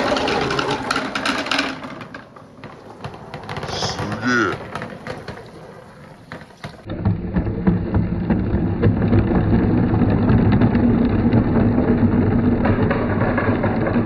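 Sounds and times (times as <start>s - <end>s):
marbles rolling along track: 0.0s - 14.0s.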